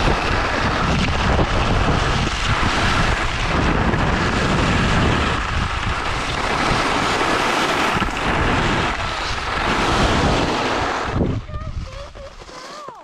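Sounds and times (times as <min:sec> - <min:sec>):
wind rushing over microphone: 0:00.0 - 0:12.6
skis sliding on snow: 0:00.0 - 0:13.0.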